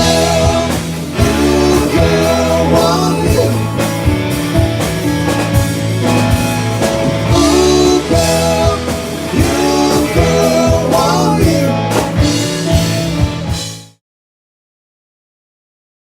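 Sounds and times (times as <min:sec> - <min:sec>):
rock song on car radio: 0:00.0 - 0:13.9.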